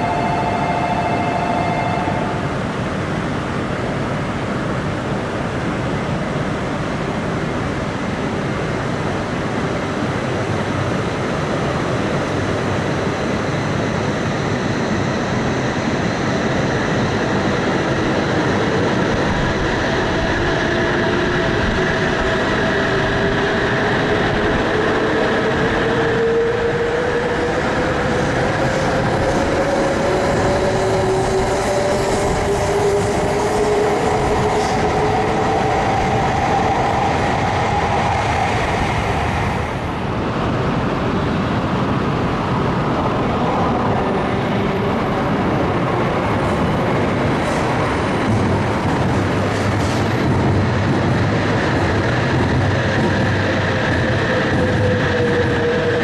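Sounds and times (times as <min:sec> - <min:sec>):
train running noise rushing: 0:00.0 - 0:56.0.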